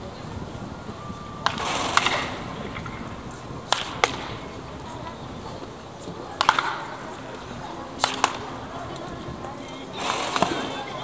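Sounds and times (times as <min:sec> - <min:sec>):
wooden bat cracking ball: 0:01.4 - 0:11.0.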